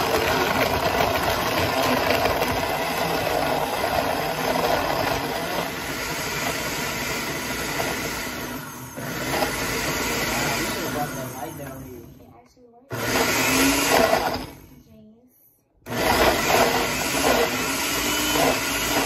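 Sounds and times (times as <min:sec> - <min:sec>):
blender crushing ice: 0:00.0 - 0:14.8, 0:15.9 - 0:19.0.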